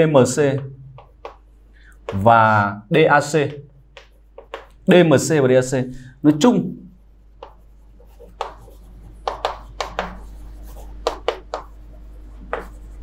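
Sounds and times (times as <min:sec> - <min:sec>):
chalk tapping and scratching: 0:00.2 - 0:02.2, 0:03.2 - 0:05.4, 0:06.3 - 0:13.0.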